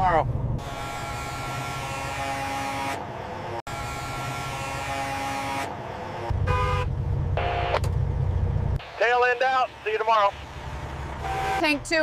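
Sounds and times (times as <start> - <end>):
diesel truck engines rumbling: 0.0 - 12.0.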